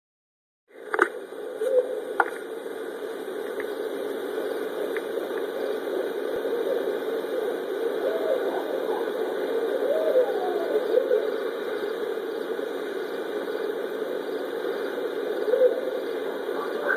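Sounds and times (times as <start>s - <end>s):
steady background noise: 0.7s - 16.9s
owls hooting: 1.2s - 16.9s.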